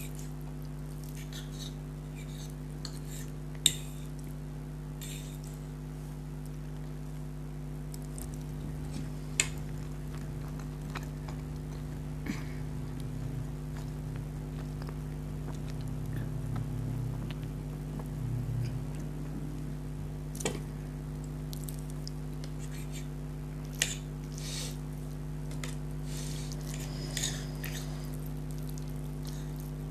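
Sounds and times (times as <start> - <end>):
soft chewing: 0.0 - 29.9
steady background hum: 0.0 - 29.9.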